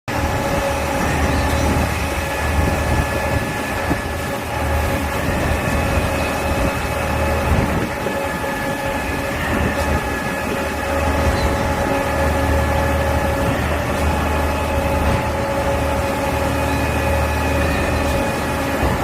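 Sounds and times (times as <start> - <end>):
heavy diesel engine rumble: 0.1 - 19.0
steady whine: 0.1 - 19.0.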